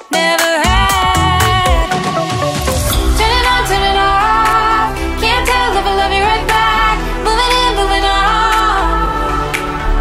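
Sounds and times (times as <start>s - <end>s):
pop music with sliding melody: 0.0s - 10.0s.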